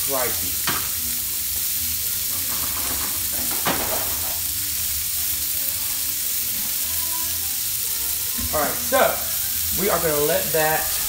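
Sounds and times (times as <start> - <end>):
onions sizzling in a pan: 0.0 - 11.0
pot of water boiling: 0.0 - 11.0.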